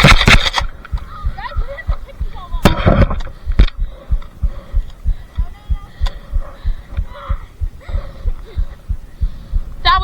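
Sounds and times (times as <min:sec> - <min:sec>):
deep bass thumps: 0:00.9 - 0:10.0.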